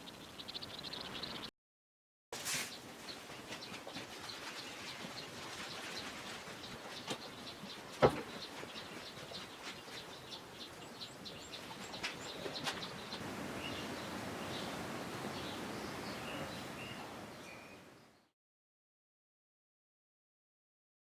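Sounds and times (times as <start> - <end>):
small birds chirping: 0.0 - 1.5, 2.4 - 18.3.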